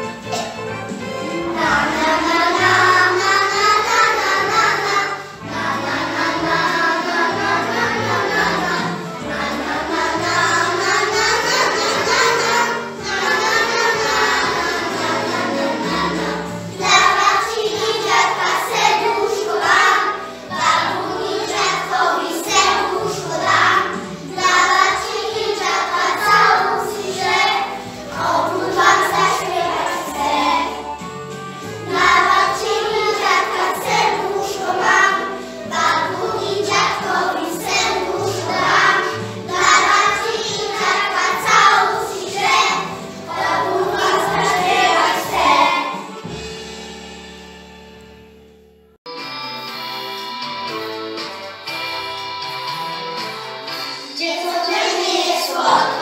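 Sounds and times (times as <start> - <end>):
instrumental accompaniment: 0.0 - 56.0
children singing in unison: 1.2 - 46.4, 54.0 - 56.0.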